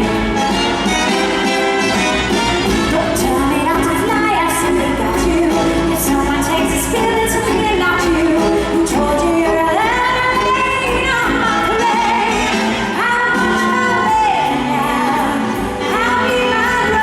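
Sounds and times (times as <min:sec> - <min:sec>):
band accompaniment: 0:00.0 - 0:17.0
woman singing: 0:02.7 - 0:17.0.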